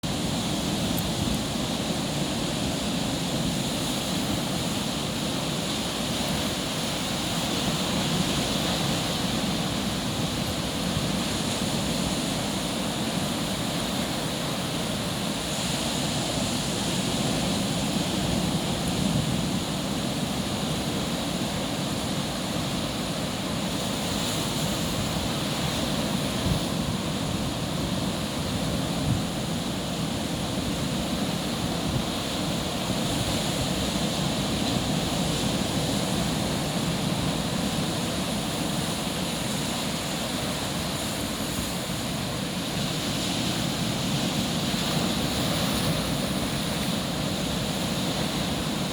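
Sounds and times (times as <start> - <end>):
ocean surf breaking on beach: 0.0 - 48.9.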